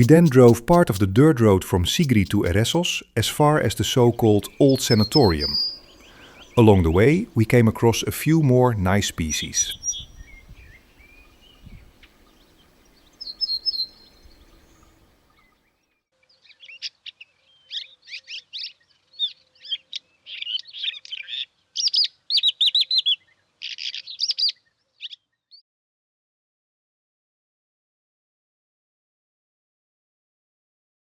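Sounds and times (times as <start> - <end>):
songbird chattering song: 0.0 - 25.6.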